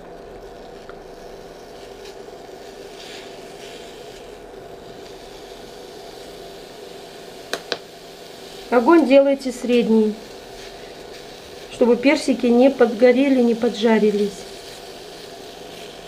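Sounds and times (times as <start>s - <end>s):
electric hob hum: 0.0s - 16.0s
fruit sizzling in frying pan: 0.0s - 16.0s.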